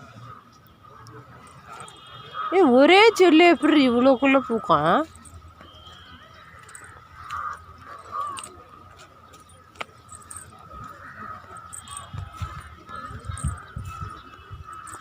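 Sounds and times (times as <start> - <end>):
people murmuring: 0.0 - 15.0.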